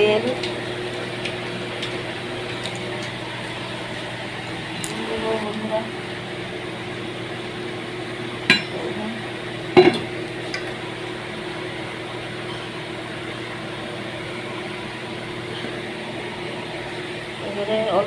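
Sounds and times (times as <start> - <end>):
kitchen hum: 0.0 - 18.0.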